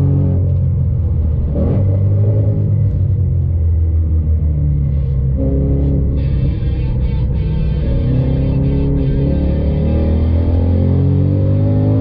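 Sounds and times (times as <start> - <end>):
car engine rumble from cabin: 0.0 - 12.0.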